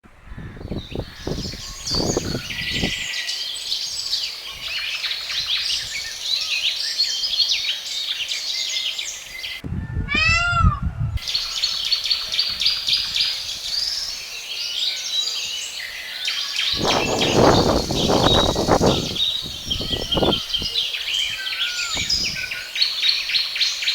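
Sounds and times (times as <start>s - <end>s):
small birds chirping: 0.3s - 9.6s, 11.2s - 23.9s.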